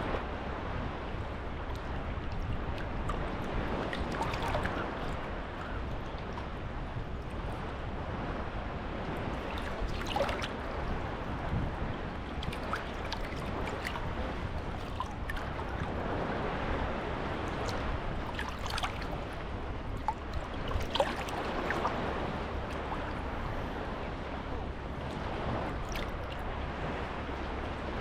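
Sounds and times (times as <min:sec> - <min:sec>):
small waves washing onto beach: 0:00.0 - 0:28.0
wave splashes: 0:00.0 - 0:28.0.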